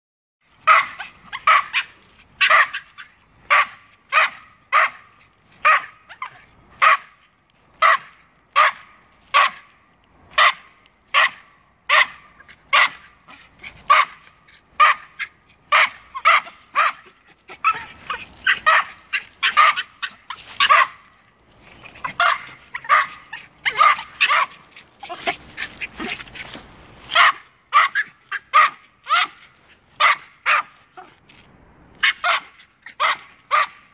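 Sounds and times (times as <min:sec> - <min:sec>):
dogs barking: 0:00.6 - 0:07.1, 0:07.8 - 0:09.6, 0:10.4 - 0:21.1, 0:22.0 - 0:26.1, 0:27.1 - 0:29.4, 0:30.0 - 0:30.8, 0:32.0 - 0:33.9.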